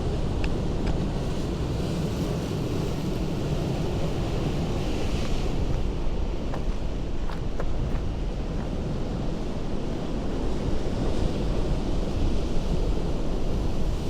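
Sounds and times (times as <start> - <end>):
ocean surf on rocky shore: 0.0 - 14.0
wind rumble on microphone: 0.0 - 14.0.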